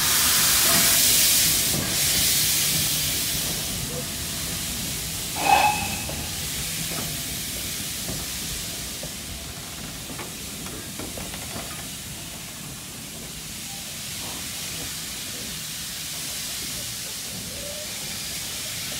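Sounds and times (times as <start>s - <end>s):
steam hiss from train: 0.0s - 18.9s.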